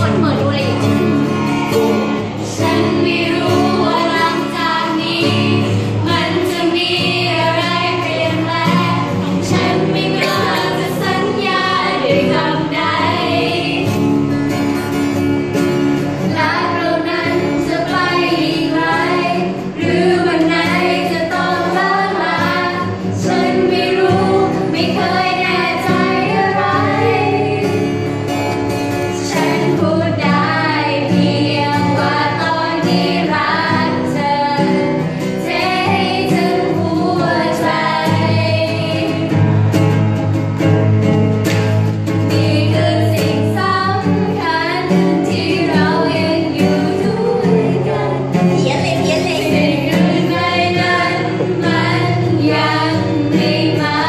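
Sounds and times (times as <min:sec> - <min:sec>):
group of girls singing: 0:00.0 - 0:15.2, 0:16.0 - 0:39.7, 0:42.1 - 0:54.0
strummed acoustic guitar: 0:00.0 - 0:54.0.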